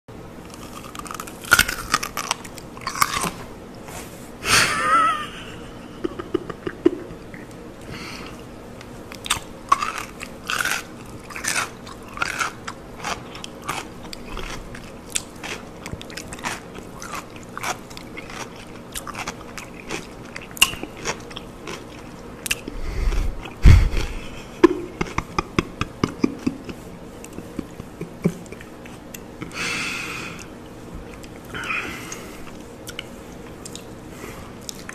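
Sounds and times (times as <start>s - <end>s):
pickles crunching while chewed: 0.4s - 3.9s, 8.2s - 29.6s, 30.4s - 34.9s.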